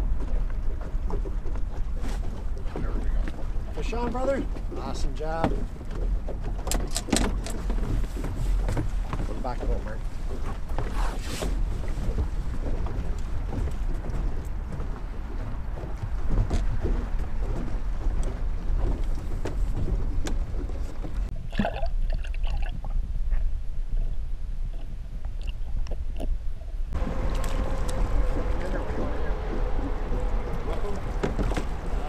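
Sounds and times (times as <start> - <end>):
water slapping boat hull: 0.0 - 22.9, 26.9 - 32.0
wind rumbling on microphone: 0.0 - 32.0.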